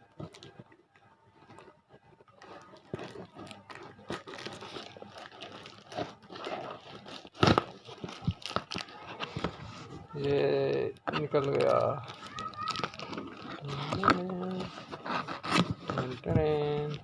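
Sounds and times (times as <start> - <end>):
parcel packaging crinkling and tearing: 1.3 - 17.0.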